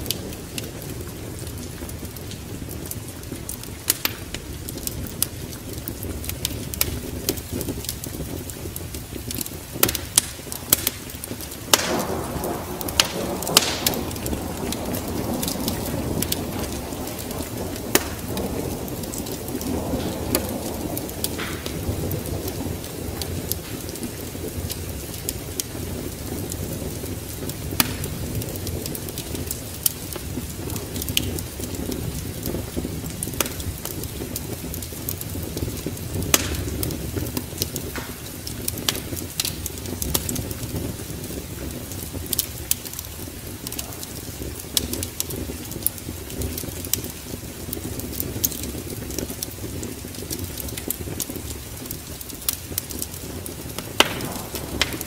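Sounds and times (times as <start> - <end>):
steady rain: 0.0 - 55.0
thunder rumbling: 0.0 - 55.0
wind: 0.0 - 55.0
wood fire crackling: 0.0 - 55.0.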